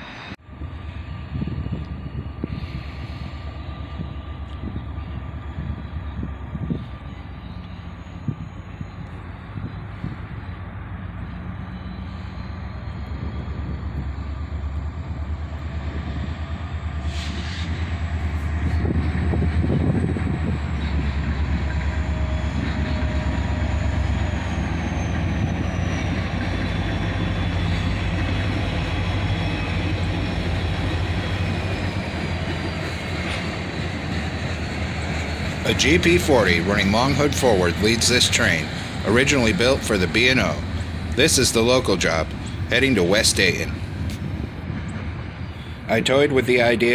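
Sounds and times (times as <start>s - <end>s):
diesel locomotive engine rumbling: 0.0s - 46.9s.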